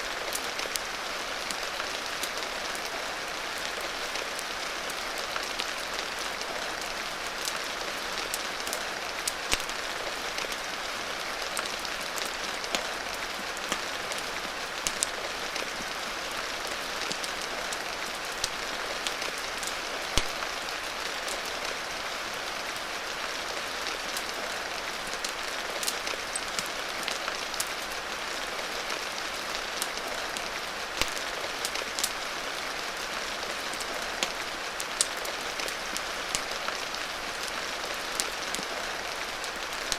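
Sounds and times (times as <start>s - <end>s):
steady rain: 0.0s - 39.9s
wood fire crackling: 0.1s - 39.9s.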